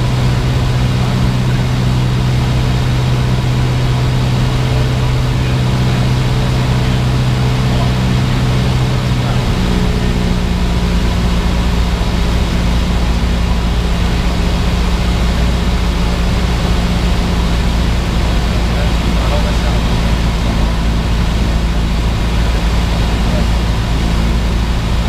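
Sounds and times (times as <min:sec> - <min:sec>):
airplane engine and propeller droning: 0:00.0 - 0:25.0.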